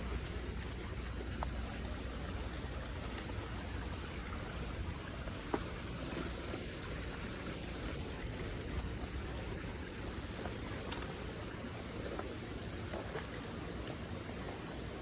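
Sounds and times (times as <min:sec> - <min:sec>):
falling water noise: 0:00.0 - 0:15.0.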